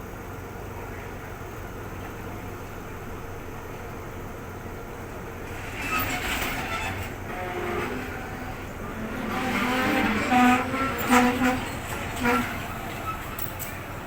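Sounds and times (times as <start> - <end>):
diesel locomotive engine running: 0.0 - 14.0.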